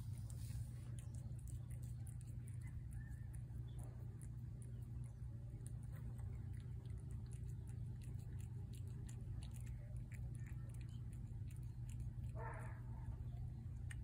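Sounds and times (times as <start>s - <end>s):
cat chewing wet food: 0.0s - 14.0s
low background hum: 0.0s - 14.0s.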